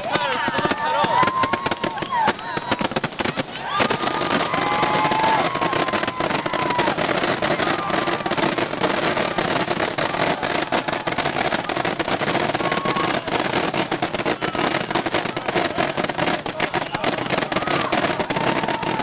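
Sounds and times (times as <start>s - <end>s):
firework whistles: 0.0s - 16.0s
fireworks bursting and crackling: 0.0s - 19.0s.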